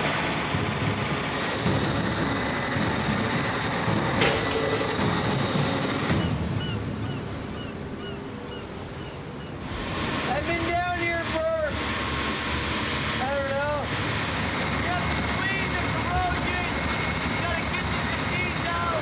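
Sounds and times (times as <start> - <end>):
rumbling machinery: 0.0 - 19.0.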